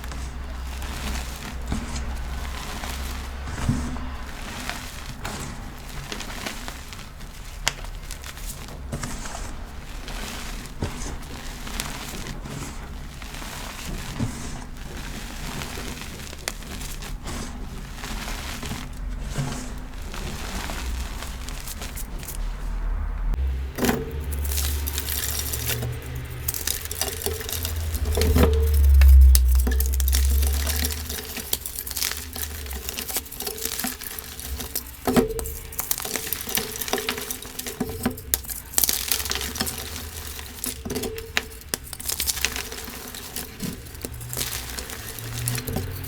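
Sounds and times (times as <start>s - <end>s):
powder blocks crunching: 0.0s - 46.0s.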